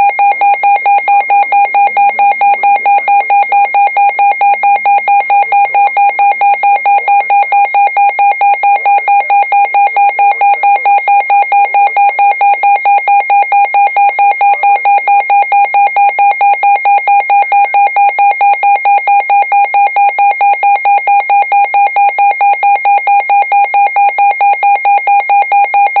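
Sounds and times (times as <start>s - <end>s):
electronic warning beeps: 0.0s - 26.0s.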